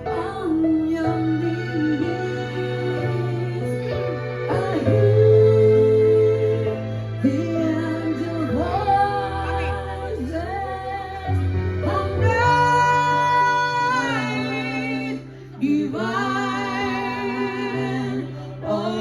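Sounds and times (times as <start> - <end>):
instrumental accompaniment: 0.0 - 19.0
woman singing slow melody: 0.0 - 19.0.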